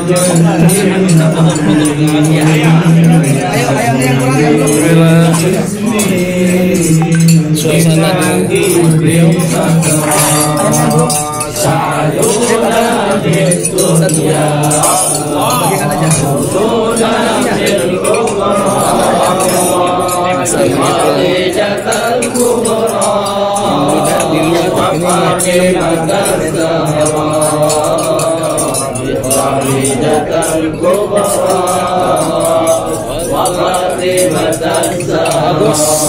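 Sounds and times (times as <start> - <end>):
men chanting together: 0.0 - 36.0.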